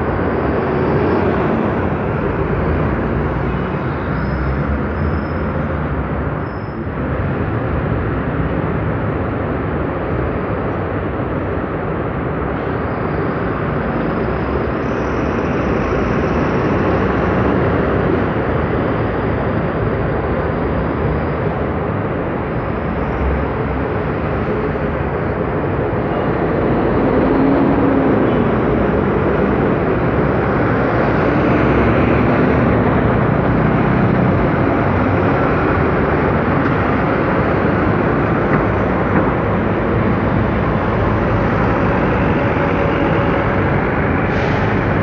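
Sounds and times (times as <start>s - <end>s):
street traffic: 0.0s - 45.0s.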